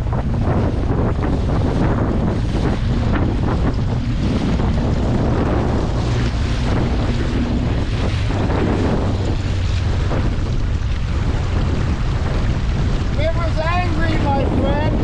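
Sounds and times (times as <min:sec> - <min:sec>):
boat motor running: 0:00.0 - 0:15.0
water splashing against hull: 0:00.0 - 0:15.0
wind buffeting microphone: 0:00.0 - 0:15.0.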